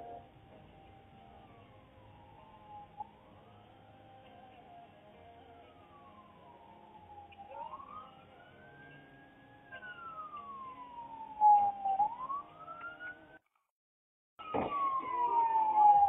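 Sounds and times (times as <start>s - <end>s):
police siren wailing: 0.0s - 13.4s, 14.4s - 16.0s.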